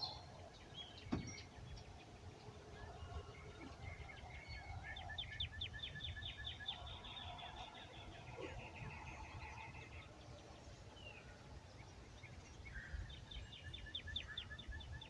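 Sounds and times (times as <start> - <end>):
wild birds singing: 0.0 - 15.0.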